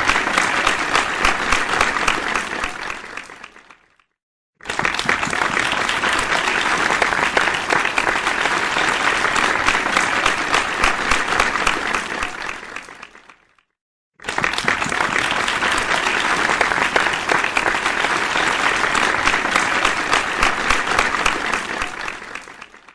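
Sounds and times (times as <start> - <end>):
crowd applause: 0.0 - 3.9, 4.6 - 13.5, 14.2 - 22.9.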